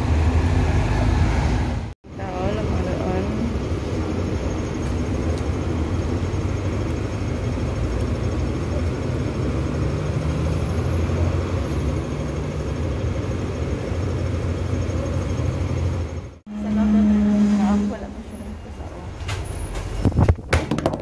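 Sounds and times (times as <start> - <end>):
bus and truck engines running: 0.0 - 20.3
city street traffic rumble: 0.0 - 21.0.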